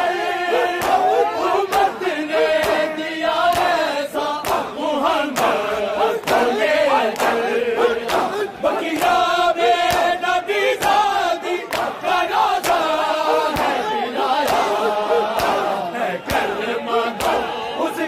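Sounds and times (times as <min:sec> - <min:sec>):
men chanting: 0:00.0 - 0:18.0
chest beating slaps: 0:00.6 - 0:03.8, 0:04.4 - 0:10.2, 0:10.8 - 0:17.6.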